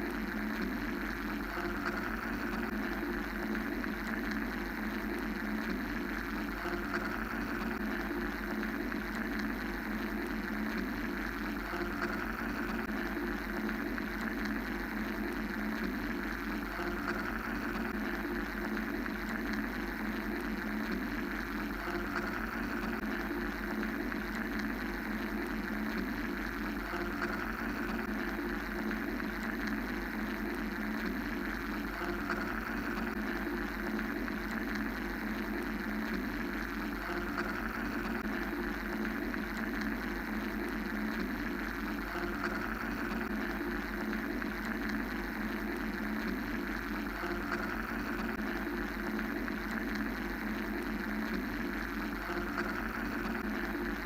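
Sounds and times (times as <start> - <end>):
mechanical white-noise drone: 0.0 - 54.0.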